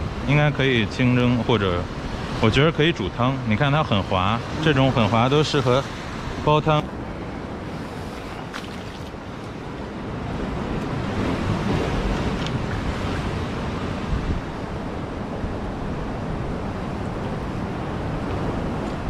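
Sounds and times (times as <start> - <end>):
ocean surf on rocks: 0.0 - 19.0
wind buffeting microphone: 0.0 - 19.0.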